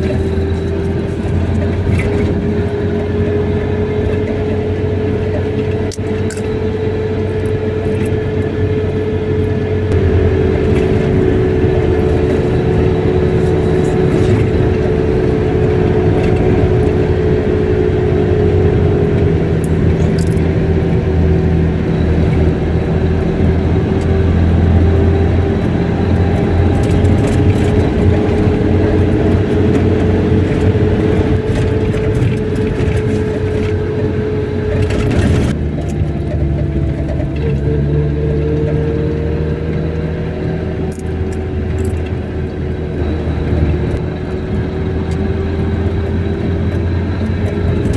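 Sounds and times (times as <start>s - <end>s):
car engine hum with road noise: 0.0s - 47.9s.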